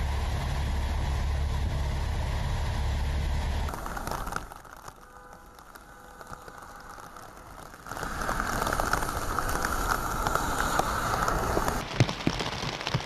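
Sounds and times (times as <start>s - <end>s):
heavy rain on flooded street: 0.0s - 13.0s.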